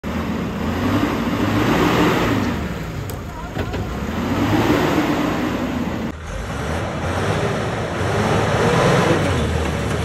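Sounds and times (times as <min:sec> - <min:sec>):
heavy diesel truck engines: 0:00.0 - 0:10.0.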